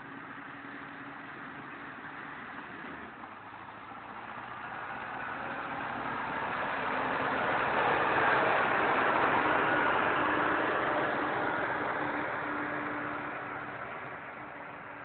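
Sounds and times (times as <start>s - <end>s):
diesel engine approaching: 0.0s - 15.0s.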